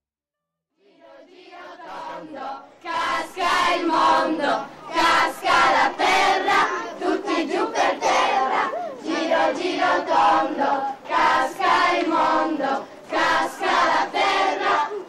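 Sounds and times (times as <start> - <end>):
children singing together: 0.9 - 15.0.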